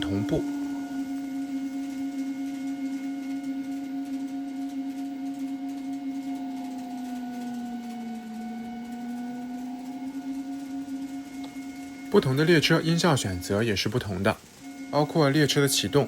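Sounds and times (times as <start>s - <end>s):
electric locomotive motor whine: 0.0s - 16.0s.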